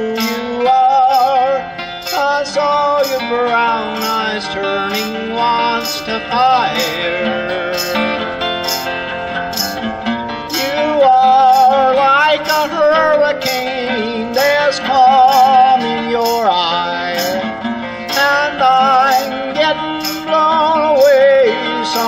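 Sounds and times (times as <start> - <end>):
harmonica melody: 0.0 - 22.0
strummed acoustic guitar: 0.0 - 22.0.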